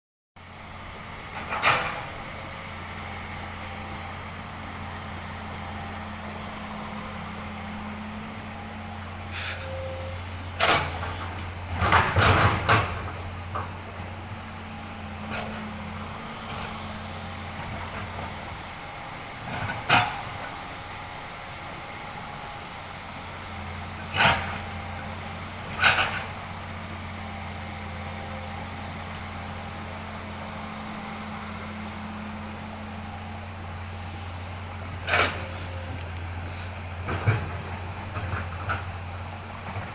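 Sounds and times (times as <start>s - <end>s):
excavator diesel engine humming: 0.4s - 39.9s.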